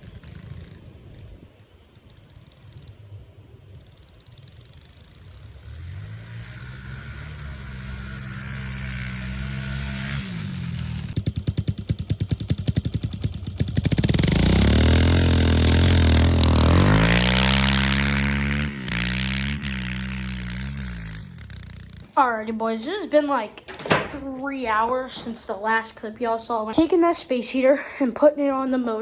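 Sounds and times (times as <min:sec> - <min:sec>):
dirt bike engine running: 0:02.0 - 0:25.5.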